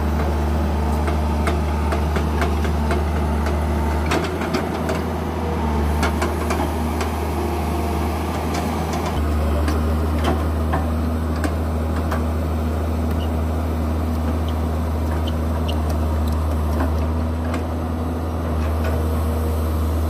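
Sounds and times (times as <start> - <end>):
excavator diesel engine: 0.0 - 20.0.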